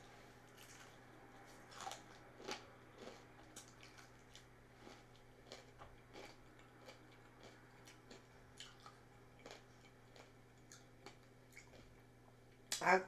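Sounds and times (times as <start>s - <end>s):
faint chewing: 0.0s - 12.8s.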